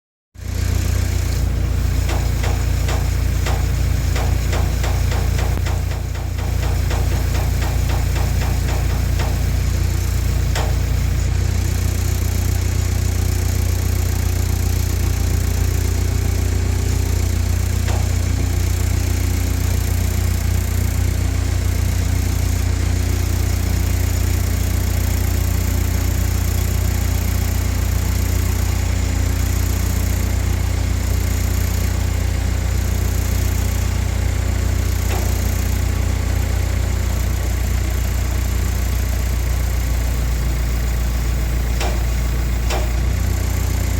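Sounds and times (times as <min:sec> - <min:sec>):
engine idling: 0:00.4 - 0:43.9.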